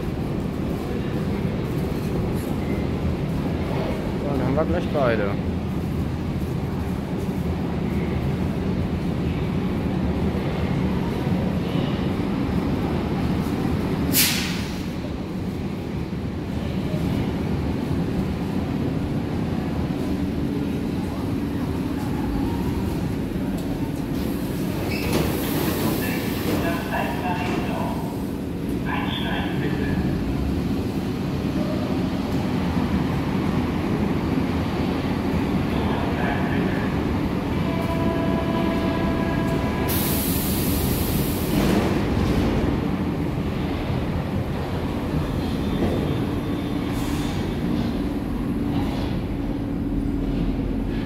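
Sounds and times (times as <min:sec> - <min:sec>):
train rumble and hum: 0:00.0 - 0:51.0.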